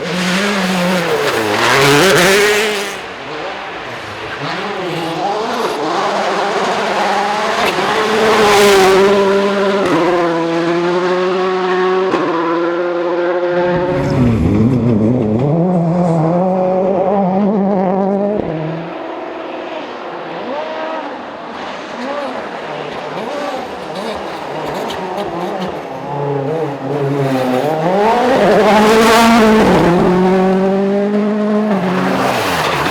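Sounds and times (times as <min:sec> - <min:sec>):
rally car engines revving: 0:00.0 - 0:32.9.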